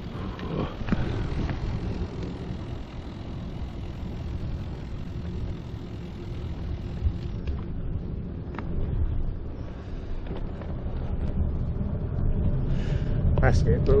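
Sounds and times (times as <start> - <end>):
bicycle road noise: 0.0 - 14.0
wind rumble on microphone: 0.0 - 14.0.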